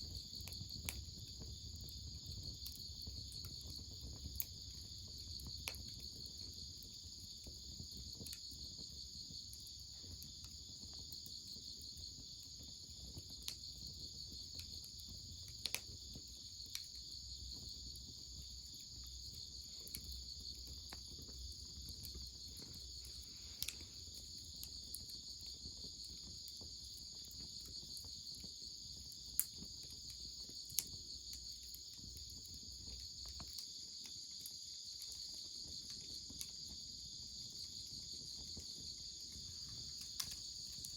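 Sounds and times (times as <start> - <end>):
crickets chirping: 0.0 - 40.9
wood fire crackling: 0.0 - 40.9.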